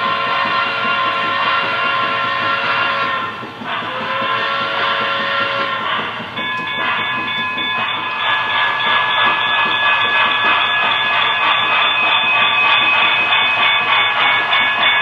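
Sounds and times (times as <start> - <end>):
model steam locomotive hissing: 0.0 - 15.0.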